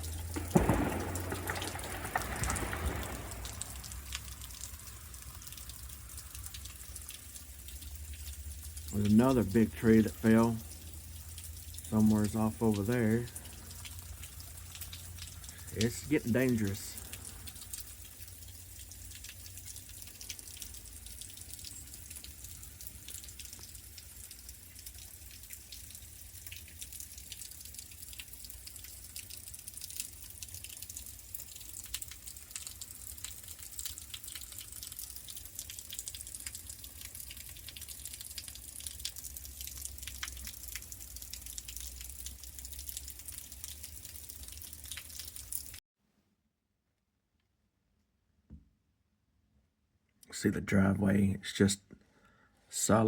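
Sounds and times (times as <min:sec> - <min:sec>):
icy drops pattering: 0:00.0 - 0:45.8.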